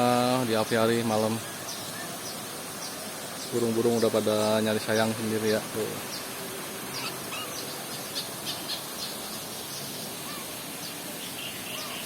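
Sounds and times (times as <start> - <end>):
background hiss: 0.0 - 12.0
birds chirping: 0.0 - 12.0
soft low bird calls: 1.3 - 12.0.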